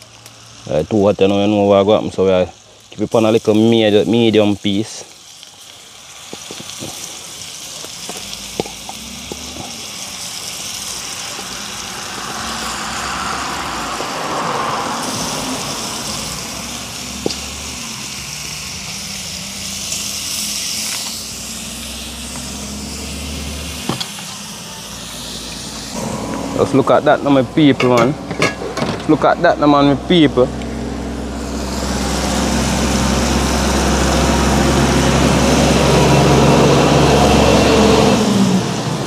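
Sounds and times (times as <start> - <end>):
food sizzling in butter: 0.0 - 38.6
low rumble of fire: 0.0 - 39.0.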